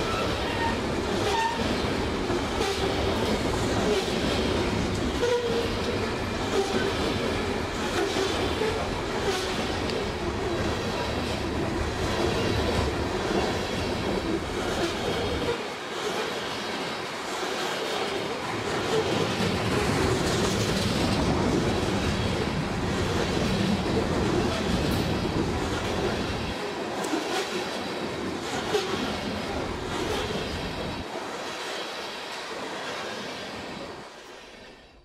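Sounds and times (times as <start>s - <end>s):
train wheels clicking over rail joints: 0.0s - 33.6s.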